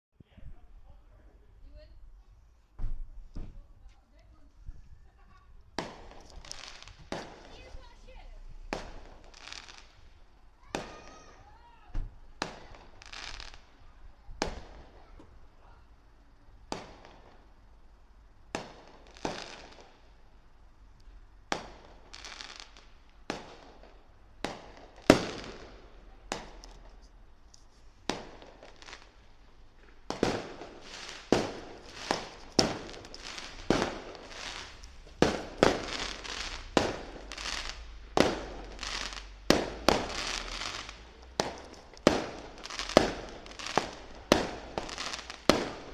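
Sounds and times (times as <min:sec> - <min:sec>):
fireworks bangs with crackling tails: 0:04.6 - 0:27.4, 0:28.0 - 0:45.9.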